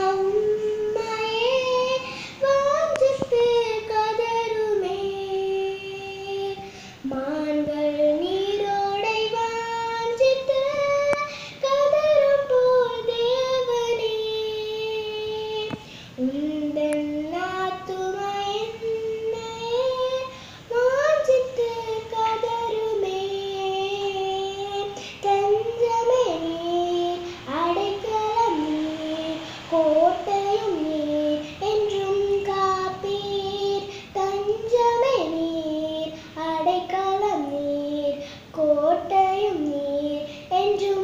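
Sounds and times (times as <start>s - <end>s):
girl singing unaccompanied: 0.0s - 41.0s.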